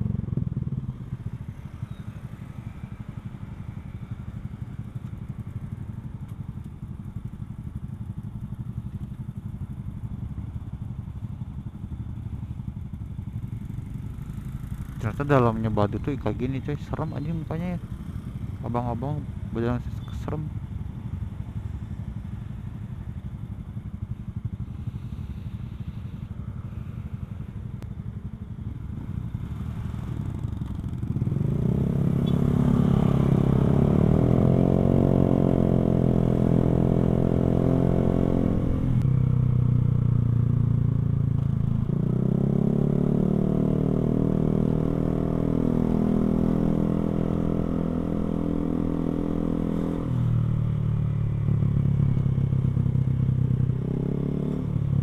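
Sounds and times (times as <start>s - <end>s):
motorcycle accelerating: 0.0s - 6.6s, 11.8s - 55.0s.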